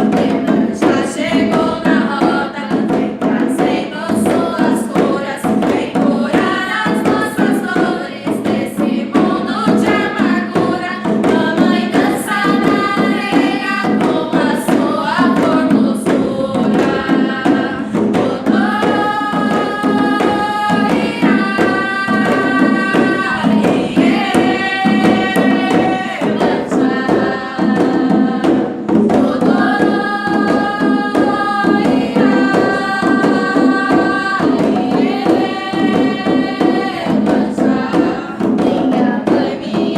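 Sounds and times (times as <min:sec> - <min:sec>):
percussion: 0:00.0 - 0:39.9
voices singing chant-like song: 0:00.0 - 0:39.9.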